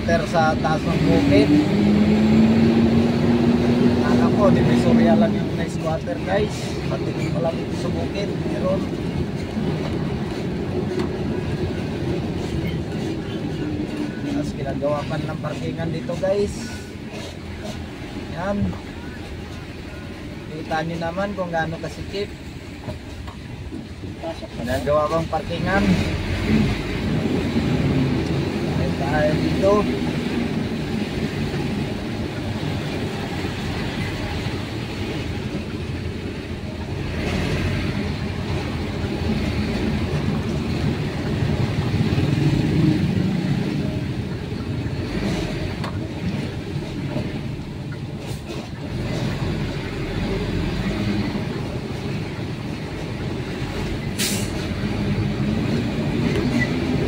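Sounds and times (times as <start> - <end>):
diesel truck engine rumble: 0.0 - 57.0
road noise: 0.0 - 57.0.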